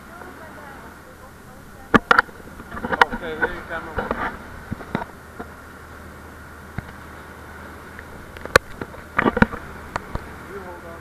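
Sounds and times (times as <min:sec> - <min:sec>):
boat engine droning: 0:00.0 - 0:11.0
wind and sea rushing: 0:00.0 - 0:11.0.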